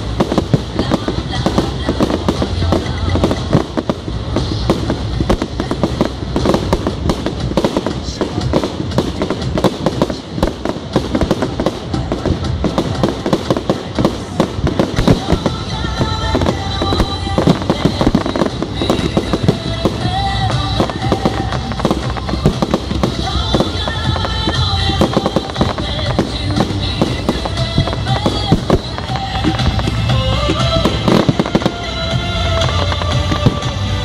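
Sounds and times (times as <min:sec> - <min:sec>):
fireworks crackling and banging: 0:00.0 - 0:34.0
music: 0:00.0 - 0:34.0.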